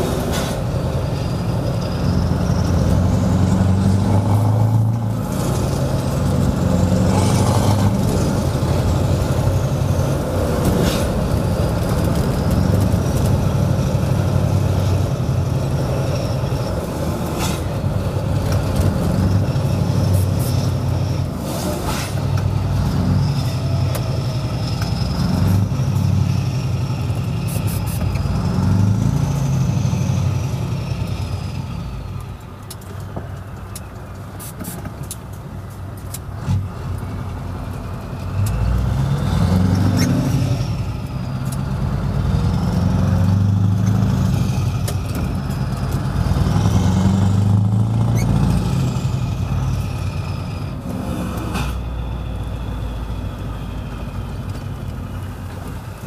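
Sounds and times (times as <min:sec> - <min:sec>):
diesel truck engine revving: 0:00.0 - 0:32.4, 0:36.1 - 0:56.0.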